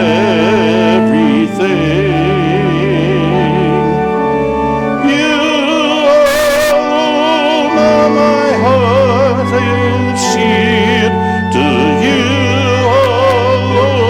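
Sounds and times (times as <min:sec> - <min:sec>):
keyboard chords: 0:00.0 - 0:14.0
people singing a hymn: 0:00.0 - 0:14.0.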